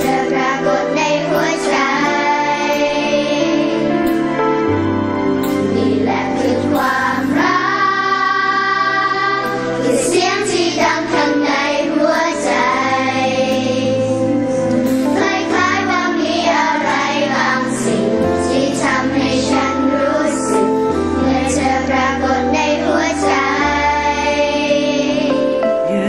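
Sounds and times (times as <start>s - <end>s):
children's choir singing: 0.0s - 26.0s
instrumental backing: 0.0s - 26.0s.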